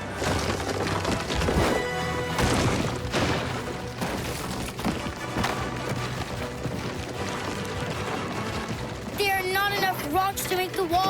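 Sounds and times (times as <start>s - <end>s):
crashing impacts: 0.0s - 9.0s
background music: 0.0s - 11.0s.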